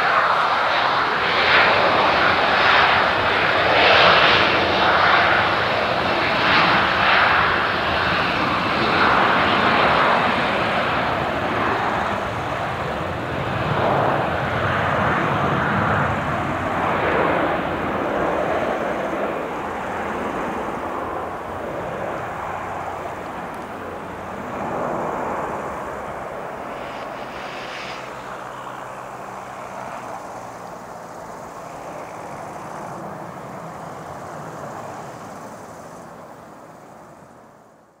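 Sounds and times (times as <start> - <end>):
airliner jet engines taking off: 0.0 - 38.0.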